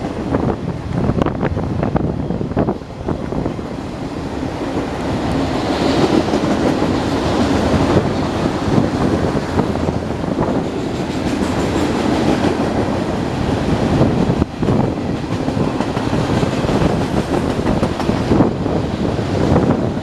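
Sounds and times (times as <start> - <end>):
freight train wheels rattling: 0.0 - 20.0.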